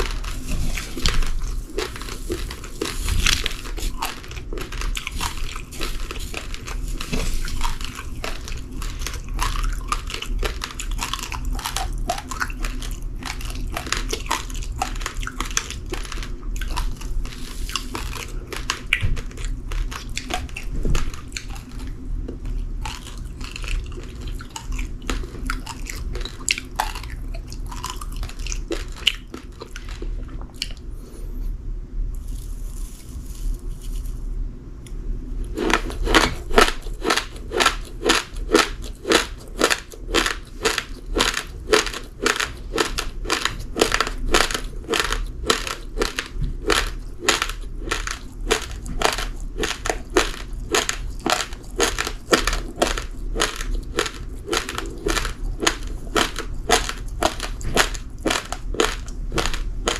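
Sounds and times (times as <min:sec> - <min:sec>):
chewing uncooked rice grains: 0:00.0 - 0:31.4, 0:32.1 - 0:59.9.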